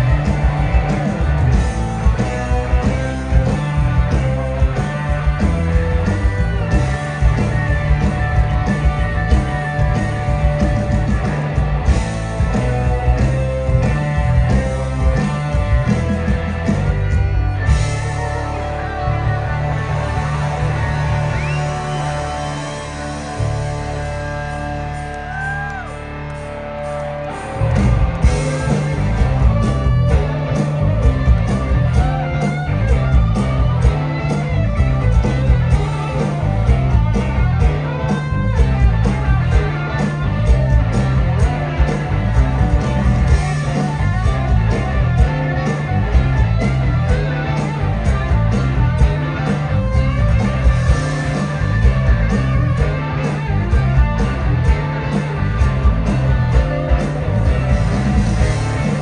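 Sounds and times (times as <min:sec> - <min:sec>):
live blues rock band: 0:00.0 - 0:59.0.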